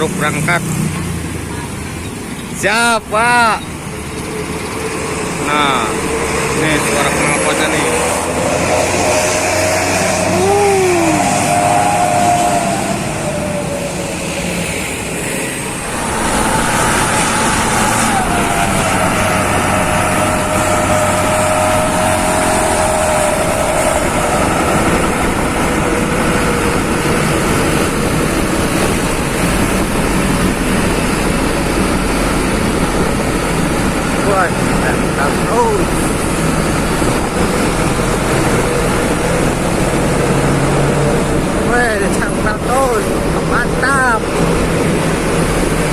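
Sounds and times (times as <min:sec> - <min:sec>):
bus engine pulling away: 0:00.0 - 0:45.9.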